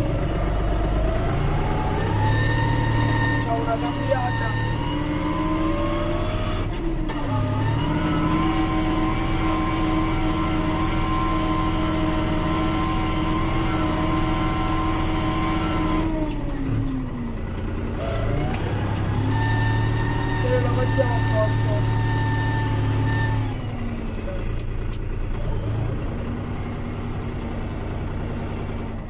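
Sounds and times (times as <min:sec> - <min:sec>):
diesel tractor engine under load: 0:00.0 - 0:29.0.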